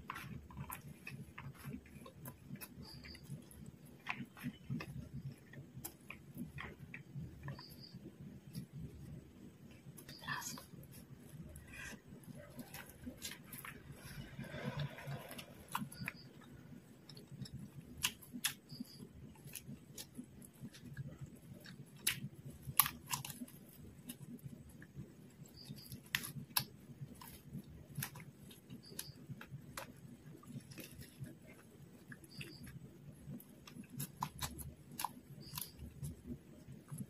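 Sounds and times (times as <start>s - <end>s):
soft chewing: 0.0s - 37.0s.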